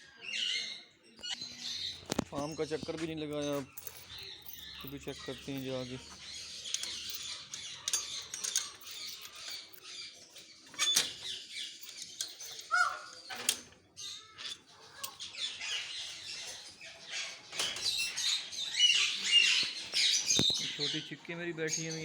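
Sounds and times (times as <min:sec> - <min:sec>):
birds chirping and twittering: 0:00.0 - 0:22.0.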